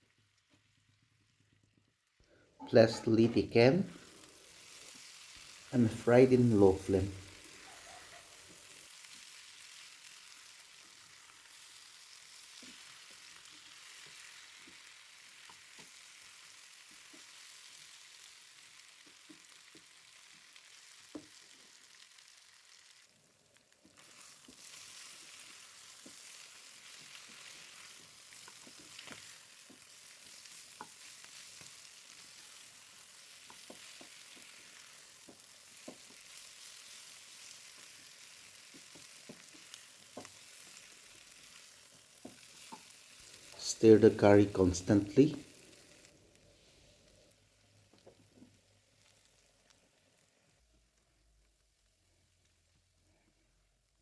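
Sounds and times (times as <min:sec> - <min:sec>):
faint sizzle in a pan: 0:00.0 - 0:54.0.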